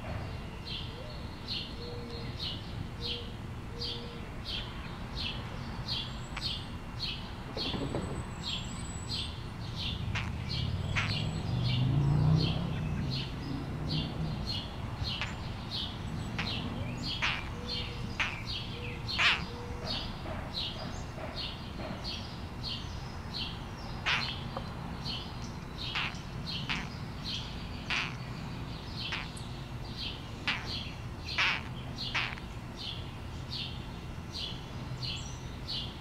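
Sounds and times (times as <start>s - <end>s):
small bird chirping: 0.5s - 36.0s.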